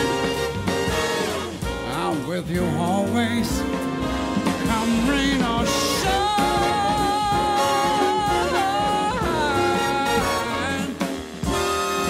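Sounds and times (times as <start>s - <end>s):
jazz big band playing: 0.0s - 12.0s.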